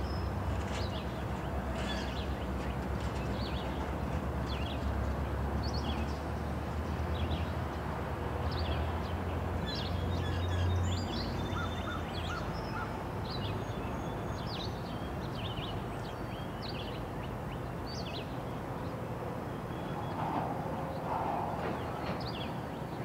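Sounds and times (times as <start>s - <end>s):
distant locomotive hum: 0.0s - 23.0s
songbirds chirping and trilling: 0.0s - 23.0s.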